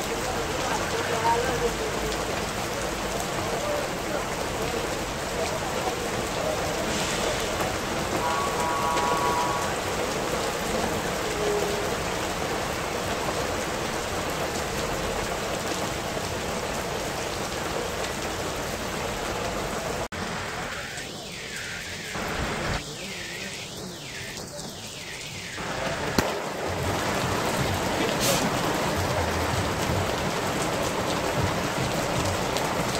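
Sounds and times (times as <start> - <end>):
rain splashing on wet pavement: 0.0 - 32.9.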